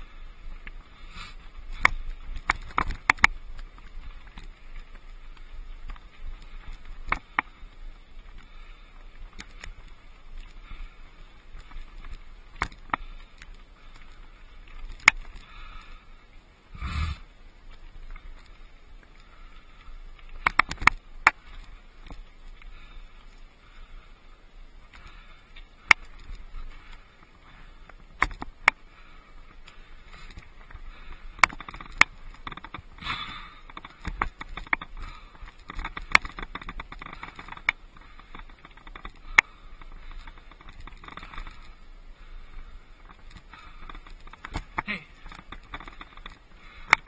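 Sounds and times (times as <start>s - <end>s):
bike knocking and rattling: 0.0s - 15.9s, 17.8s - 23.8s, 24.8s - 47.0s.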